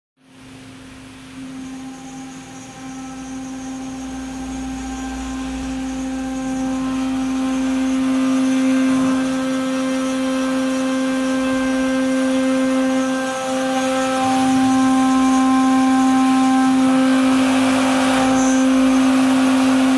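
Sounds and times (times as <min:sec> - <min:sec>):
milling machine cutting metal: 0:01.0 - 0:19.9.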